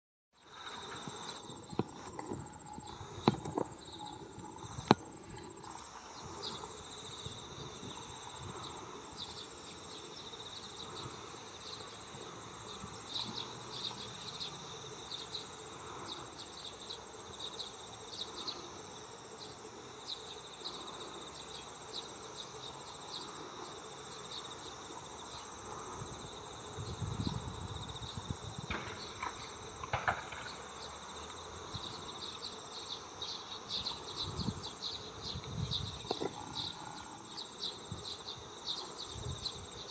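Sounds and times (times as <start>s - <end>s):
insects trilling: 0.4s - 39.9s.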